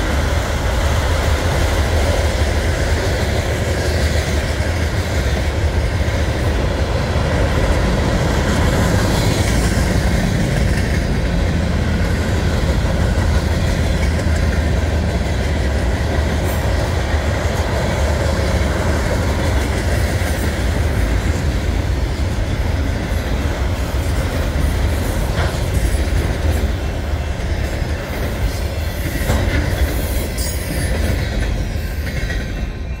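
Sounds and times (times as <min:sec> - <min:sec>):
rail joint clicks: 0:00.0 - 0:33.0
train wheels rumbling on rails: 0:00.0 - 0:33.0.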